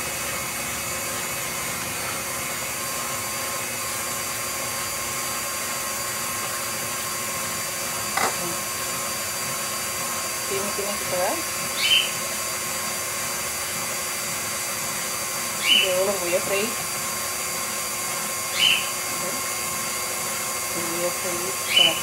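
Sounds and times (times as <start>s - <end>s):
stand mixer motor whirring: 0.0s - 22.0s.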